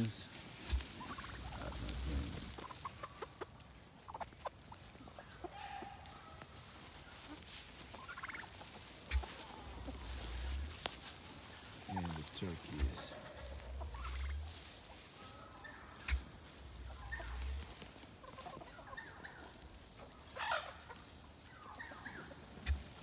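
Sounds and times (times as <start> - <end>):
chickens clucking: 0.0 - 23.0
turkey gobbling: 0.4 - 23.0.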